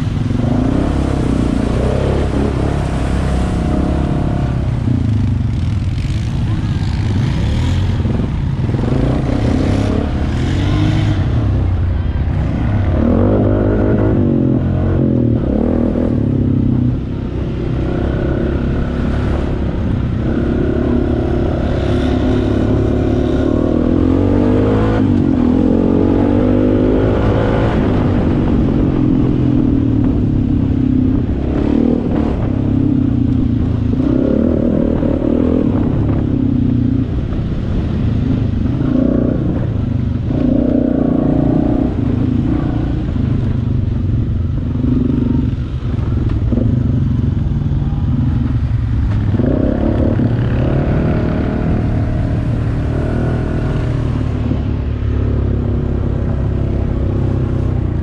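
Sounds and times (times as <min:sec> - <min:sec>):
atv engine revving: 0:00.0 - 0:28.9, 0:31.0 - 0:58.0.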